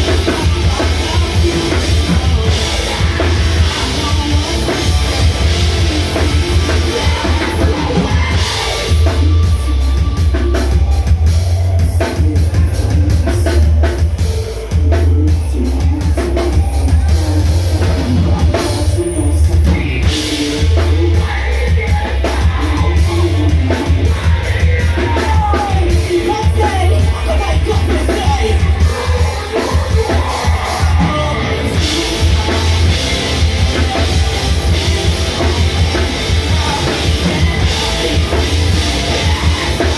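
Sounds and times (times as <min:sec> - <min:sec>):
drum kit: 0:00.0 - 0:39.9
electric guitar: 0:00.0 - 0:39.9
person singing into a microphone: 0:00.0 - 0:39.9.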